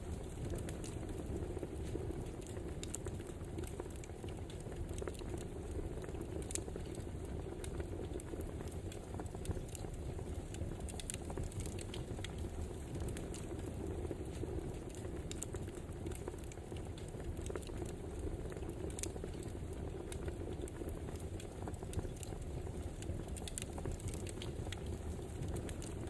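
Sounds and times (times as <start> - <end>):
wood fire popping and snapping: 0.0 - 26.0.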